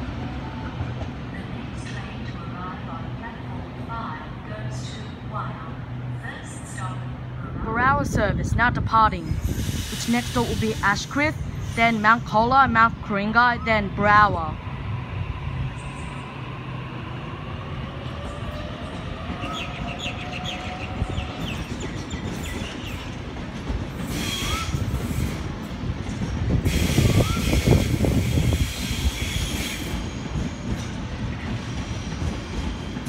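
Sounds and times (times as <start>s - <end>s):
wheels rumbling and clattering on track: 0.0s - 33.0s.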